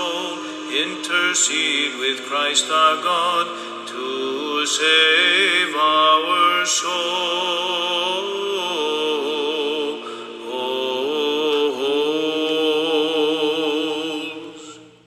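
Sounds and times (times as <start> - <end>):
held drone note: 0.0 - 15.0
person chanting slow melody: 0.0 - 15.0.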